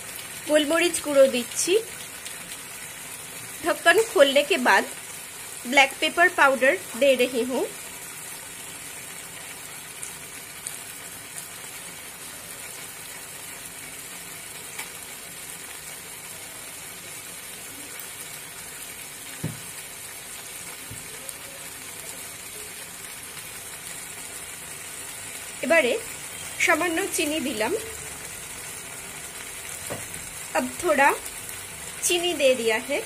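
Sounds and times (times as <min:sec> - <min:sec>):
gravy simmering and sizzling: 0:00.0 - 0:33.0.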